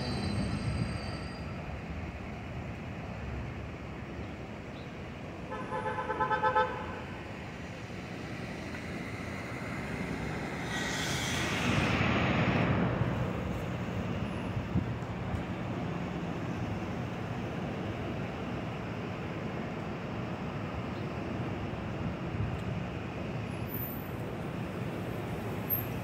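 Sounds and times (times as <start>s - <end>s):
background traffic noise: 0.0s - 26.0s
subway train running on track: 0.0s - 26.0s.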